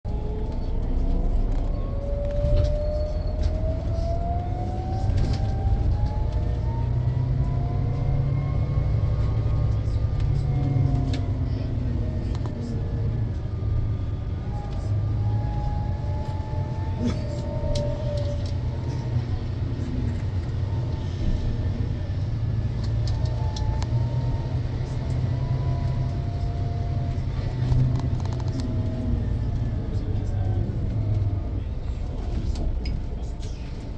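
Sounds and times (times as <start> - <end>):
bus engine low rumble: 0.0 - 33.9.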